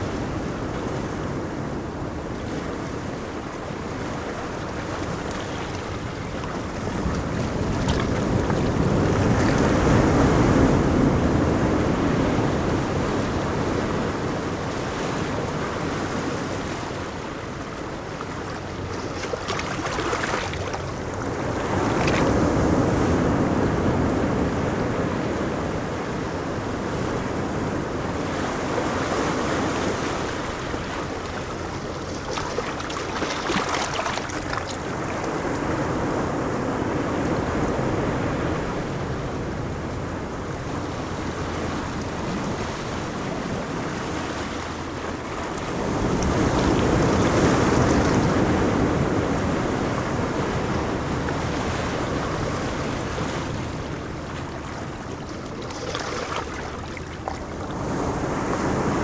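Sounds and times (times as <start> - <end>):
ocean waves breaking on beach: 0.0 - 59.0
wind on microphone: 0.0 - 59.0.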